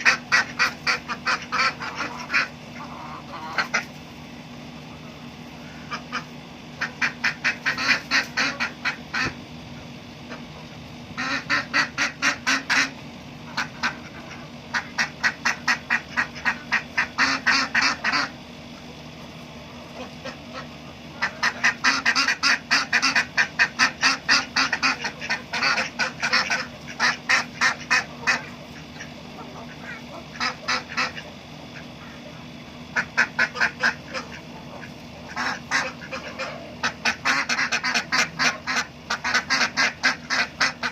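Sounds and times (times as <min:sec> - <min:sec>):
ducks quacking: 0:00.0 - 0:04.1, 0:04.8 - 0:40.9
steady low hum: 0:00.0 - 0:40.9.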